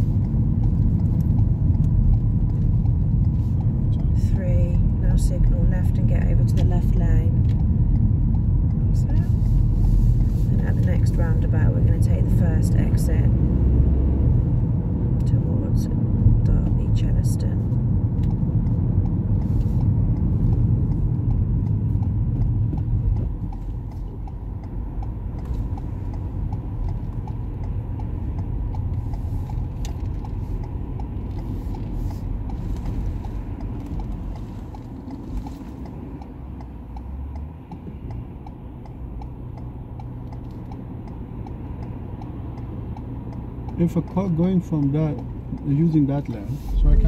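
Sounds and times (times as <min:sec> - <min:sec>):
engine and road rumble: 0:00.0 - 0:47.0
turn indicator ticking: 0:00.0 - 0:47.0.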